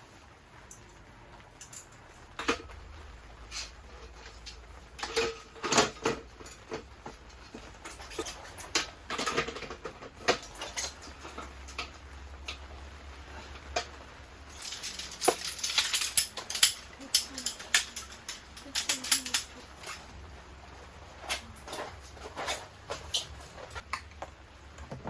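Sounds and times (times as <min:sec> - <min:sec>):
camping gear clicks and rustles: 0:00.6 - 0:25.0.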